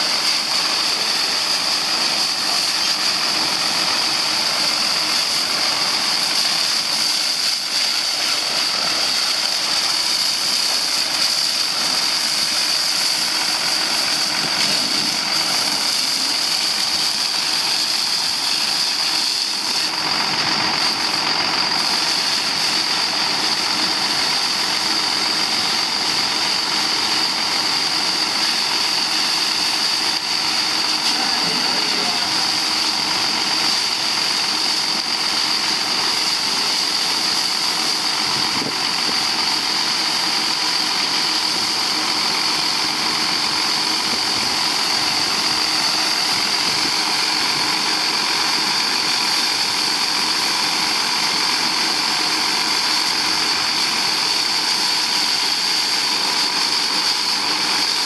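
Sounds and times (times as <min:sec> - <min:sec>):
high-pitched whine: 0:00.0 - 0:58.0
hose spraying water: 0:00.0 - 0:58.0.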